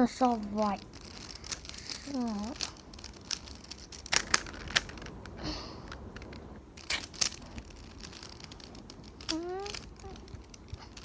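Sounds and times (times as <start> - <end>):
puzzle cube clicking: 1.0 - 11.0.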